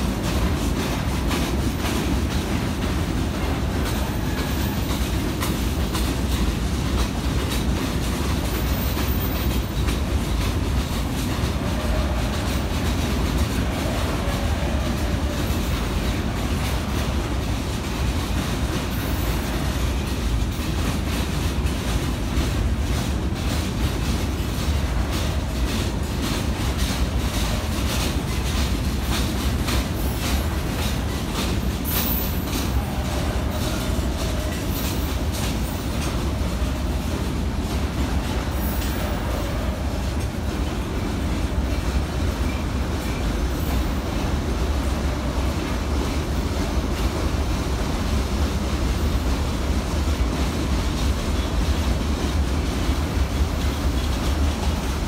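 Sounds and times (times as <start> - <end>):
wheels clicking over rail joints: 0.0 - 47.2
freight train rumbling past: 0.0 - 55.0.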